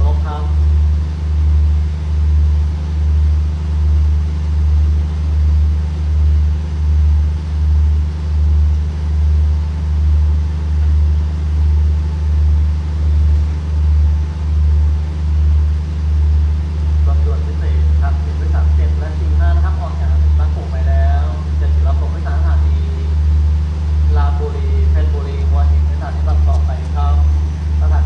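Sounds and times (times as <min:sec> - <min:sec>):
train diesel engines idling: 0:00.0 - 0:28.0.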